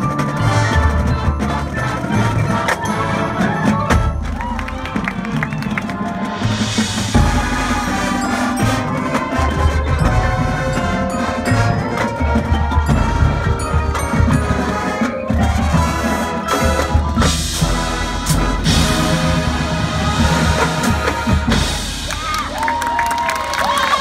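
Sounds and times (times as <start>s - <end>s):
mallet percussion: 0.0s - 23.1s
marching band playing: 0.0s - 24.0s.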